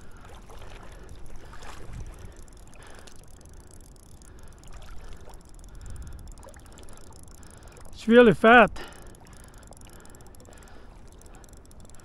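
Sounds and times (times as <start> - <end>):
low steady rumble: 0.0 - 12.0
river water lapping: 0.0 - 12.0.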